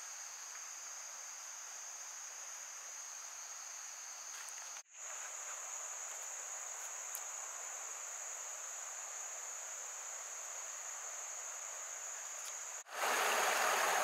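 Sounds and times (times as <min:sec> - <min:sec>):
faint hiss: 0:00.0 - 0:14.0
high-pitched insect chorus: 0:00.0 - 0:14.0.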